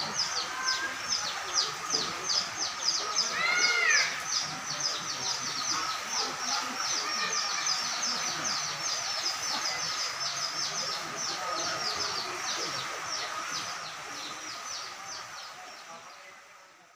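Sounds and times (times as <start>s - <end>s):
faint distant voices: 0.0s - 16.9s
small birds chirping: 0.0s - 16.9s.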